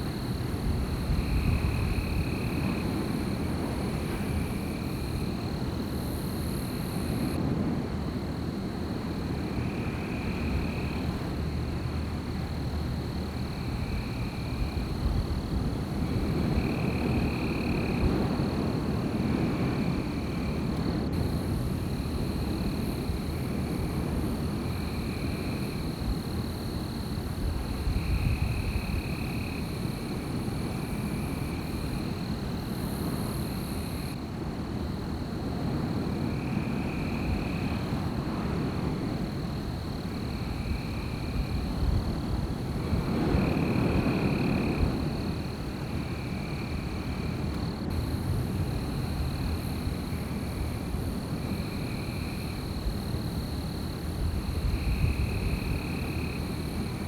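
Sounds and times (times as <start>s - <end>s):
wind blowing through trees: 0.0s - 57.0s.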